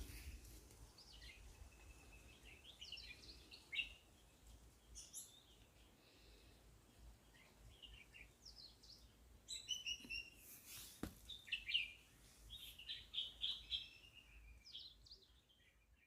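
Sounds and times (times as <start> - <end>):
birds chirping and trilling: 0.0 - 10.5, 11.2 - 16.0.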